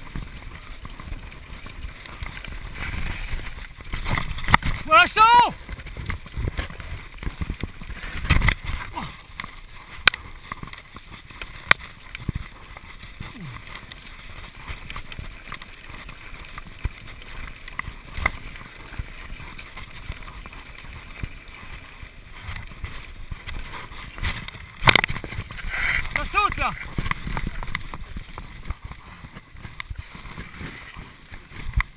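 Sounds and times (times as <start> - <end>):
bike rattling: 0.0 - 31.9
wind and tyres rushing: 0.0 - 31.9.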